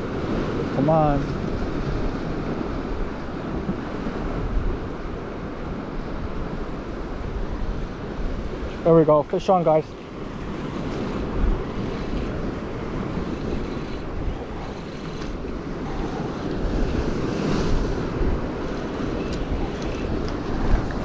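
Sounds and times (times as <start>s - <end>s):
ocean surf washing against rocks: 0.0s - 21.0s
wind buffeting microphone: 0.0s - 21.0s.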